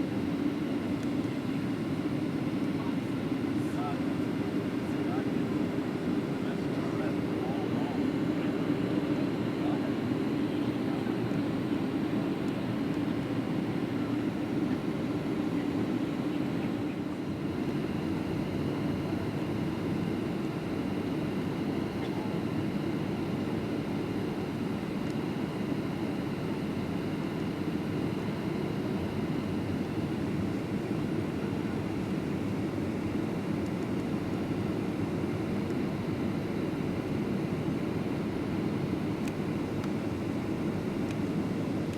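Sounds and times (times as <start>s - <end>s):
airplane cabin engine rush: 0.0s - 41.9s
faint steady whine: 0.0s - 41.9s.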